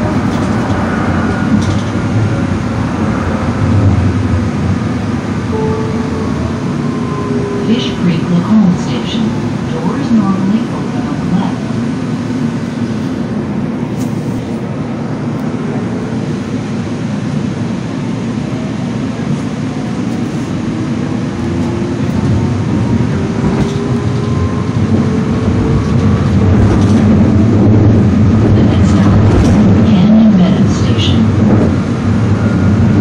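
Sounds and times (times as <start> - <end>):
low rumble of running train: 0.0 - 33.0.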